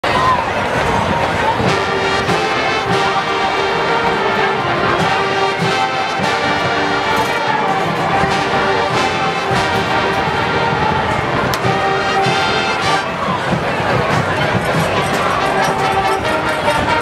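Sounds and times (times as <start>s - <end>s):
marching band playing: 0.6s - 17.0s
percussion hits: 0.7s - 17.0s
brass instruments chords: 1.5s - 17.0s.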